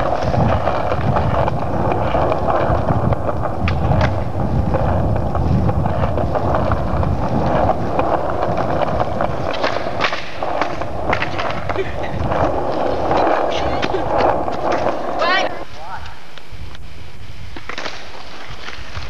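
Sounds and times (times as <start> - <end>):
skateboard clacks: 0.0 - 16.4, 17.5 - 19.0
skateboard wheels rolling: 0.0 - 19.0.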